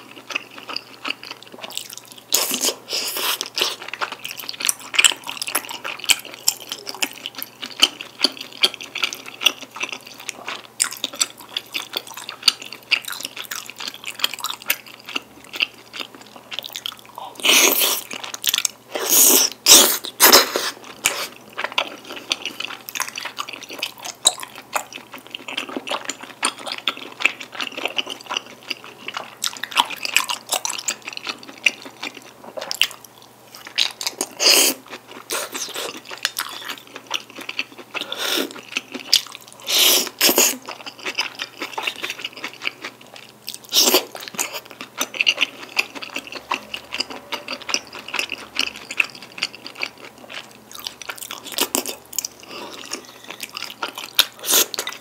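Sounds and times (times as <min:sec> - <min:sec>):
wet chewing and mouth smacking: 0:00.0 - 0:55.0.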